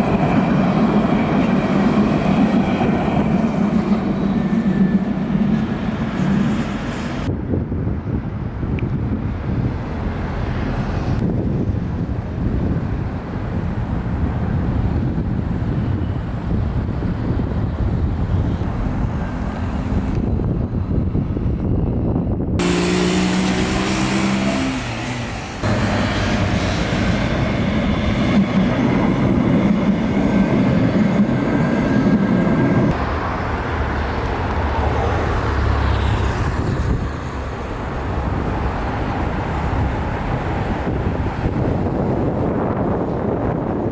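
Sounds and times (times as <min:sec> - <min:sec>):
road traffic with vehicle engines: 0:04.3 - 0:30.8, 0:32.8 - 0:43.9.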